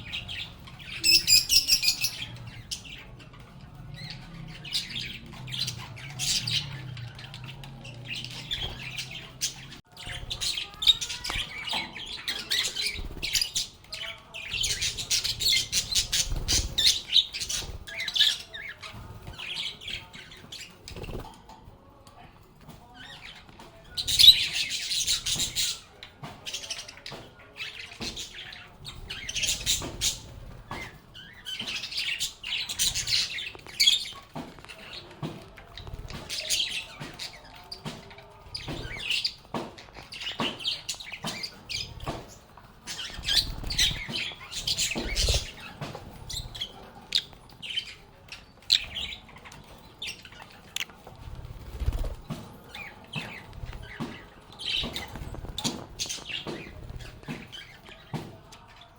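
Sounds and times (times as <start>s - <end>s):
lovebirds chirping: 0.0s - 21.3s, 22.8s - 58.9s.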